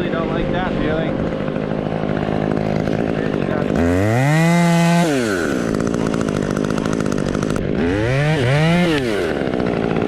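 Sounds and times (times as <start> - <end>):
chainsaw idling and revving: 0.0 - 10.0.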